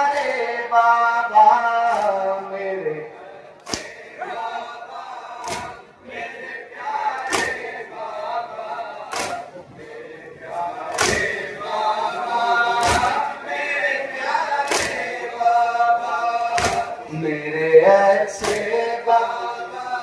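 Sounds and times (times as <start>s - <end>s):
men singing in chorus: 0.0s - 20.0s.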